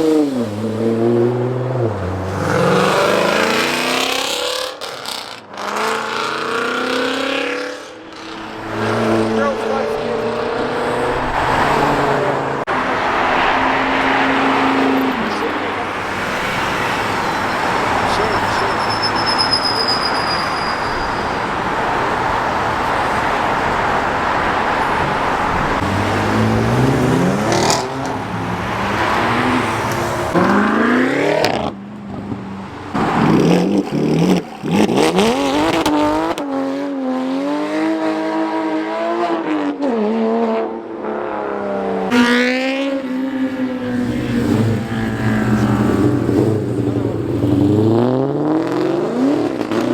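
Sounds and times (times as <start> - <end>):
car engines revving: 0.0 - 49.9
traffic noise: 0.0 - 49.9.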